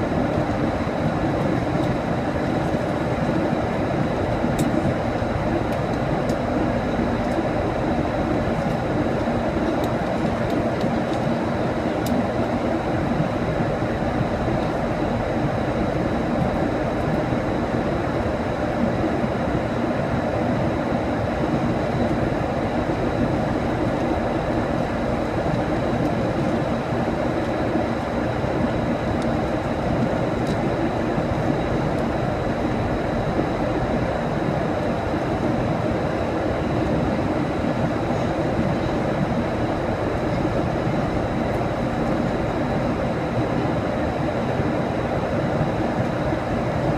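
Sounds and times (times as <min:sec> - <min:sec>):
airliner cabin engine noise: 0:00.0 - 0:46.9.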